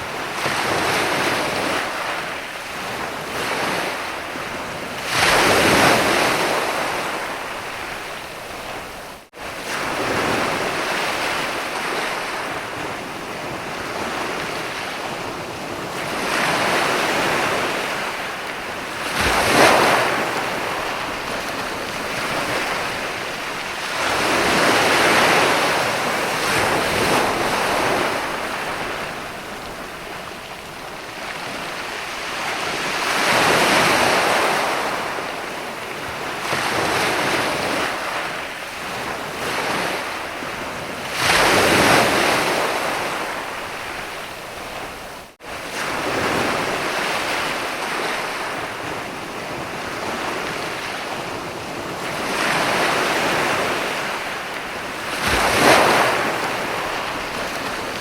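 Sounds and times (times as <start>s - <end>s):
sea waves breaking on sand: 0.0s - 58.0s.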